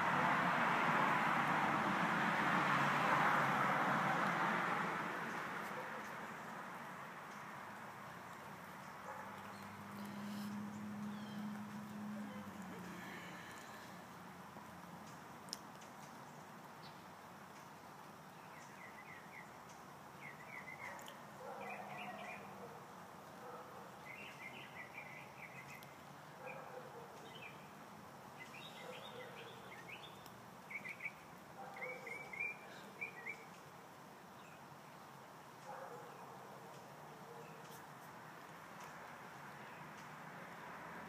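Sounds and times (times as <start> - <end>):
small birds chirping: 5.2 - 14.0, 15.0 - 22.6, 23.5 - 40.2.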